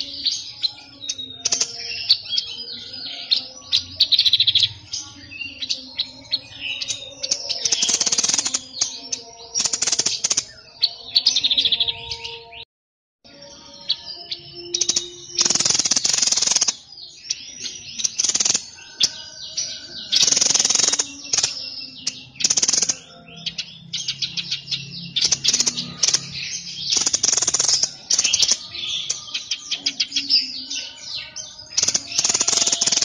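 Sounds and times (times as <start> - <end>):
bird chirps and trills: 0.0 - 12.6, 13.3 - 33.0
songbird rasping song: 0.0 - 12.7, 13.3 - 33.0.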